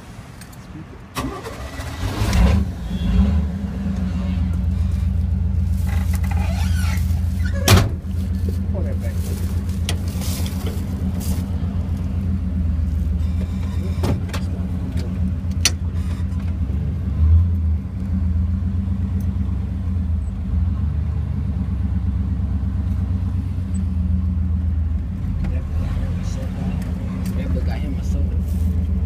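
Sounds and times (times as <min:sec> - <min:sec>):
car interior rumble: 0:00.0 - 0:29.0.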